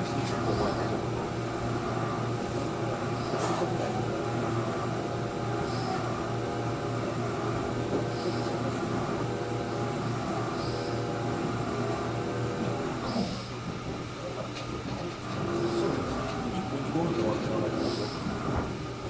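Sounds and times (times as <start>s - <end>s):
train motor hum: 0.0s - 19.0s.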